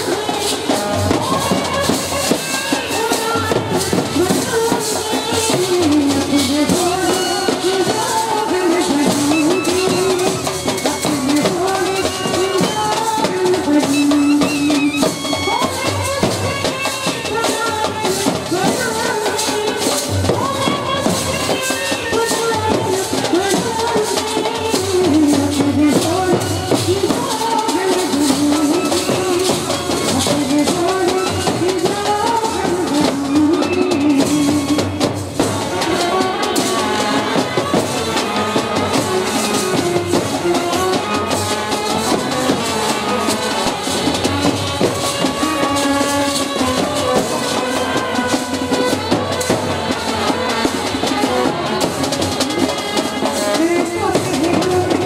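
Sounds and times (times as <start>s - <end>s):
snare drums: 0.0s - 55.0s
trumpets and brass horns melody: 0.0s - 55.0s.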